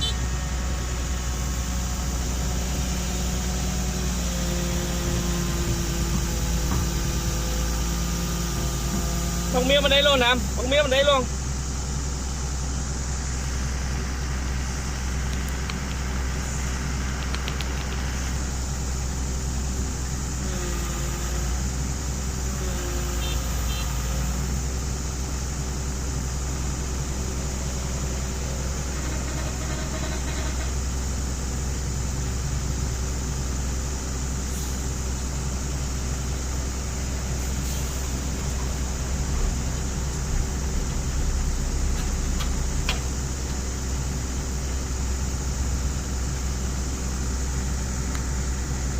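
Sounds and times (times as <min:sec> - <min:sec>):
excavator diesel engine drone: 0:00.0 - 0:48.9.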